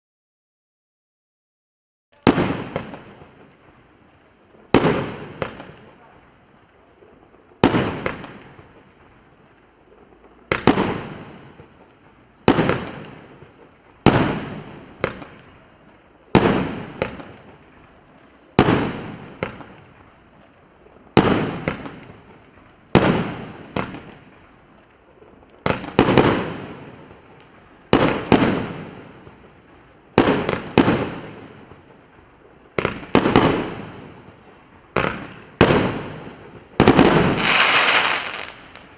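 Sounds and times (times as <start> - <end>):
firework bangs: 2.2 - 38.9
smaller firework cracks: 2.2 - 38.9.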